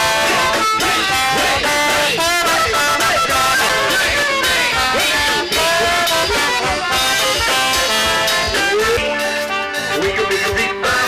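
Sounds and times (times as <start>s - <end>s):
band playing: 0.0s - 11.0s
trombone and trumpet lines: 0.0s - 11.0s.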